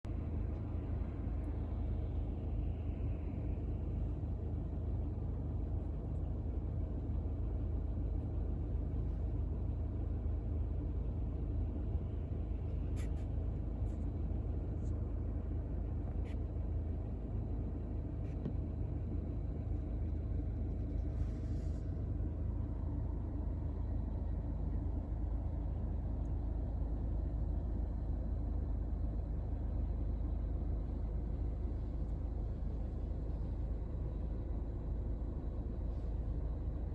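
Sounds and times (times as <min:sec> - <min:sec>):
low rumble: 0:00.0 - 0:36.9.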